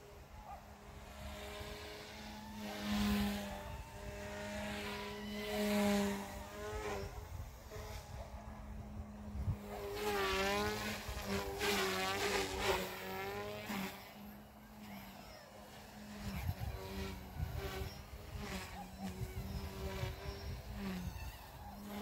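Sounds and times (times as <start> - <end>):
rc helicopter rotors buzzing: 0.0 - 22.0.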